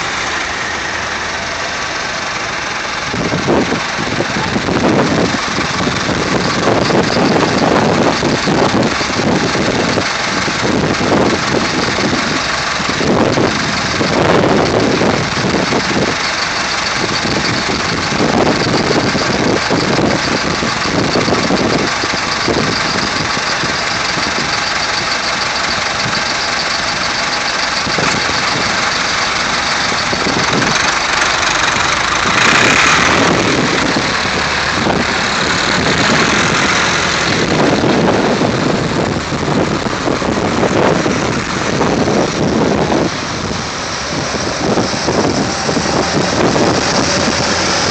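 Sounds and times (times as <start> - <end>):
tractor engines running: 0.0 - 47.9.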